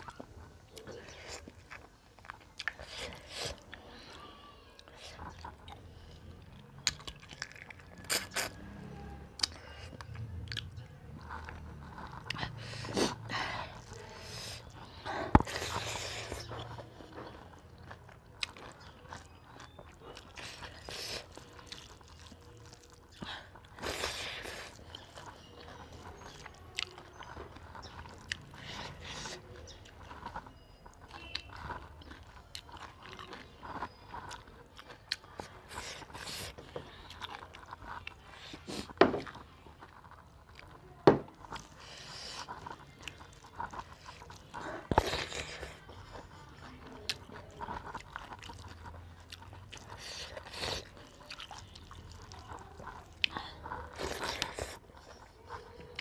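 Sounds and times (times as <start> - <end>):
fingers squelching food: 0.0 - 56.0
person chewing food: 0.0 - 56.0.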